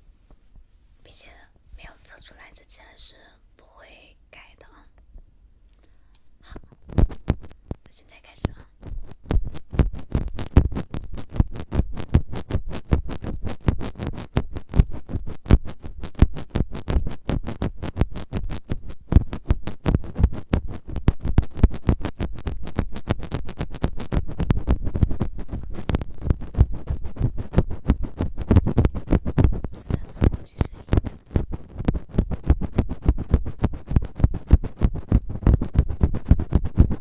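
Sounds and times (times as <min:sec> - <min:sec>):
scratching at microphone: 0:06.4 - 0:37.0.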